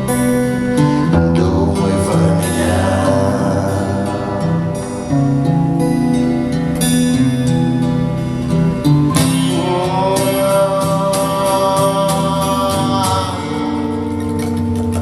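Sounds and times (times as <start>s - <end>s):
acoustic guitar playing: 0.0s - 14.6s.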